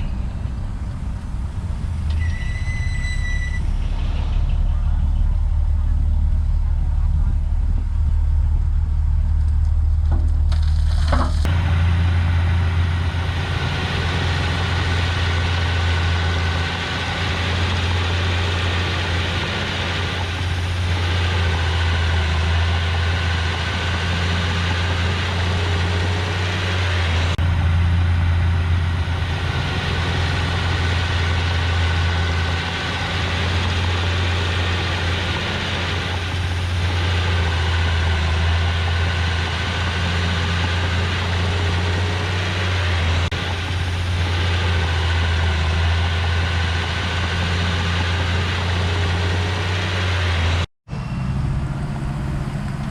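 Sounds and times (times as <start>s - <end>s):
bulldozer diesel engine droning: 0.0s - 52.9s.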